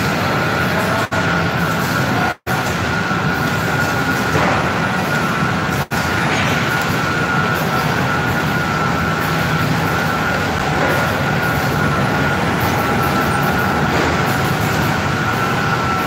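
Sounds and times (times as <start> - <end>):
high machine whine: 0.0 - 16.0
production line machine din: 0.0 - 16.0.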